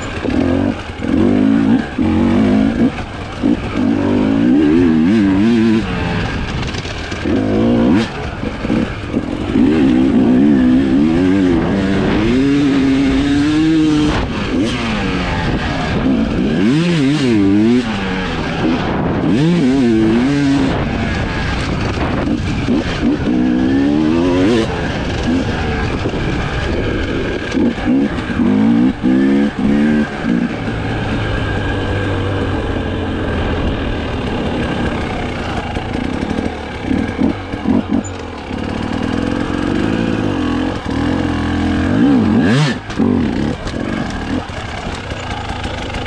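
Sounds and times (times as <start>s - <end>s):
two-stroke engine revving: 0.0s - 46.0s.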